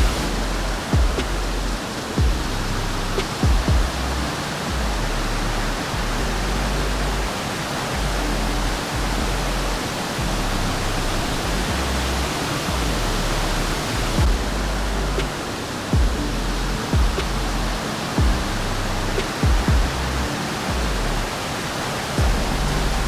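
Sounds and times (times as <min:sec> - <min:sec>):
short low thumps: 0:00.0 - 0:07.3, 0:08.0 - 0:15.4, 0:16.0 - 0:21.3, 0:22.2 - 0:23.0
waterfall rushing: 0:00.0 - 0:23.0.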